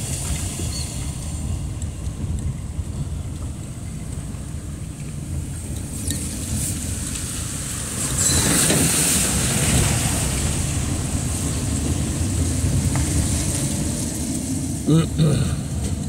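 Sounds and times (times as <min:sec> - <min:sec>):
bus passing by: 0:00.0 - 0:16.0
car driving on wet street: 0:00.0 - 0:16.0
tyres hissing on wet road: 0:00.0 - 0:16.0.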